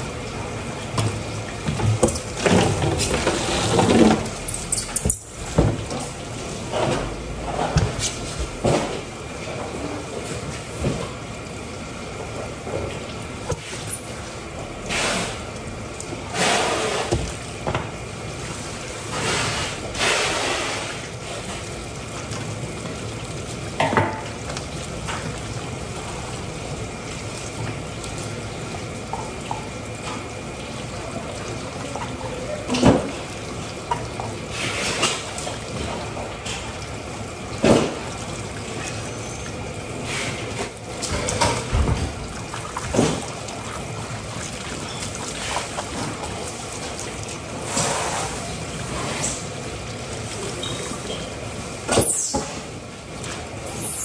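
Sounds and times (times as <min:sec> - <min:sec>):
water running: 0:00.0 - 0:54.0.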